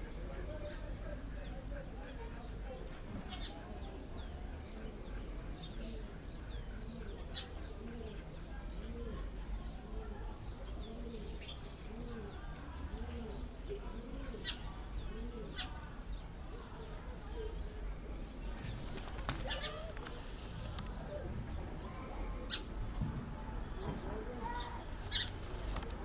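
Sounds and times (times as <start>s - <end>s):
sparrows chirping: 0.0s - 26.0s.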